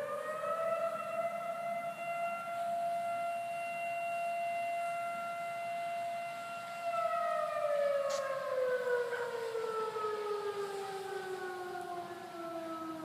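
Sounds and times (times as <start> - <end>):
warning siren winding down: 0.0 - 13.0.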